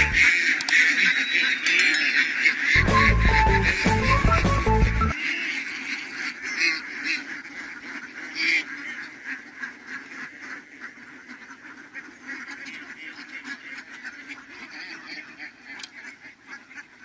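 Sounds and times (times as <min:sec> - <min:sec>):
flock of ducks quacking: 0:00.0 - 0:01.6, 0:02.2 - 0:17.0.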